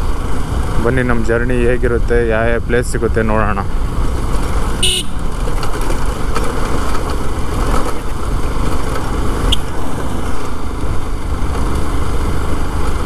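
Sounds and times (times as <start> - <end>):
motorcycle engine cruising: 0.0 - 13.0
road and wind rumble: 0.0 - 13.0.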